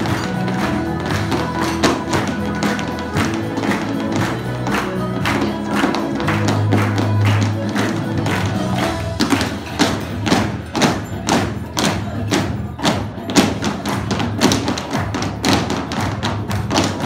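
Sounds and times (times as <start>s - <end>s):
dancers' shoes stamping floor: 0.0s - 17.0s
lively dance music: 0.0s - 17.0s.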